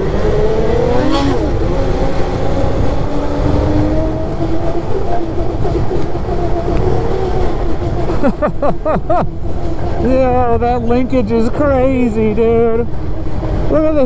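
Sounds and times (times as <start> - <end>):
snowmobile engine running: 0.0 - 12.5
track rumble: 0.0 - 14.0.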